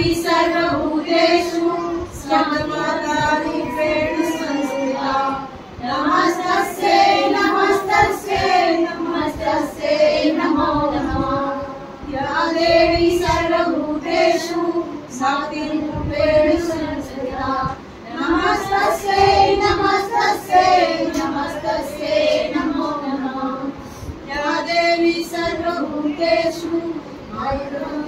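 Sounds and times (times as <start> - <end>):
women singing in unison: 0.0 - 28.0.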